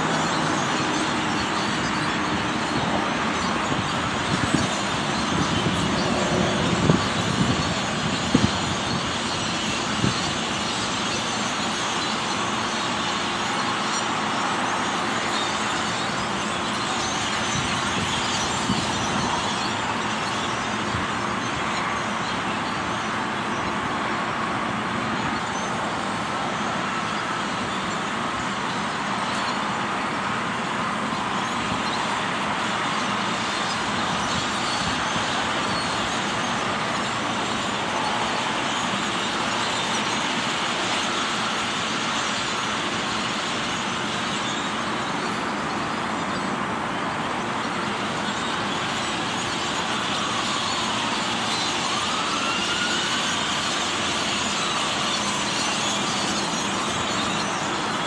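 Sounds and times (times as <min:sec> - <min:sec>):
flock of birds chirping: 0:00.0 - 0:58.0.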